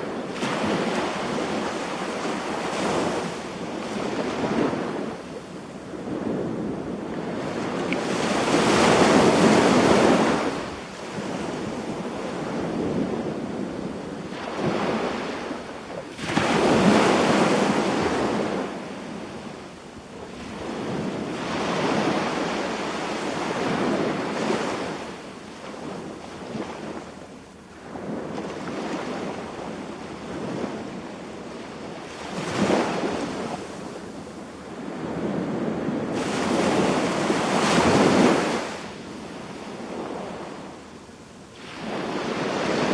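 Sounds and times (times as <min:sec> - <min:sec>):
waves breaking on beach: 0:00.0 - 0:42.9.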